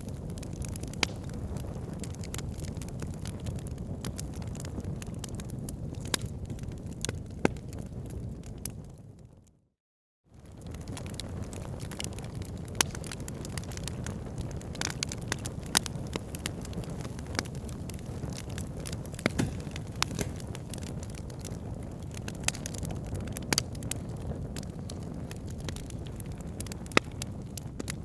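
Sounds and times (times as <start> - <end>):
fire crackling and popping: 0.0 - 9.2, 10.4 - 28.0
low rumble of flames: 0.0 - 9.4, 10.3 - 28.0.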